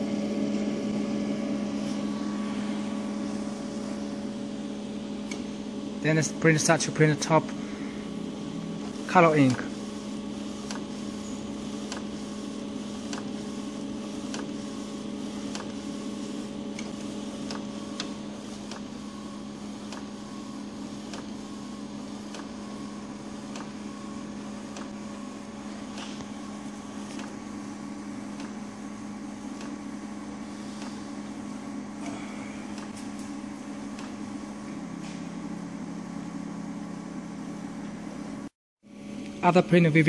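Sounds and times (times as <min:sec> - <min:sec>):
printer machine hum: 0:00.0 - 0:40.0.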